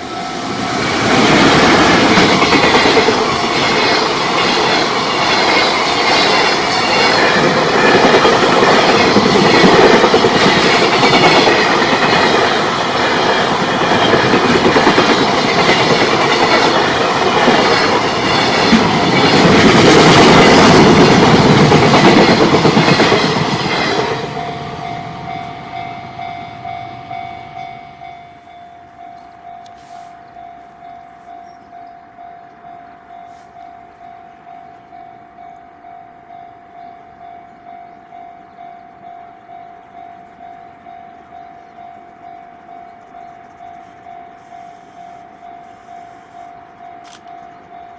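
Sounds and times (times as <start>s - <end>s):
train wheels on rails: 0.0s - 47.9s
level-crossing alarm ringing: 1.7s - 47.9s.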